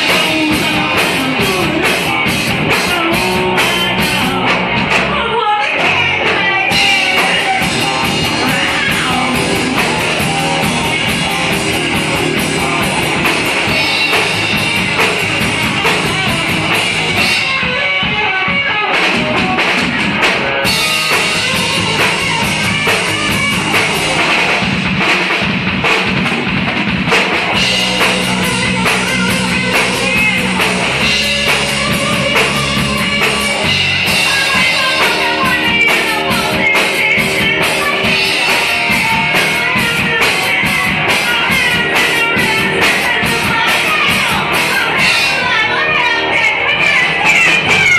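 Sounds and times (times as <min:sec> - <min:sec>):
drum kit: 0:00.0 - 0:47.9
electric guitar: 0:00.0 - 0:47.9.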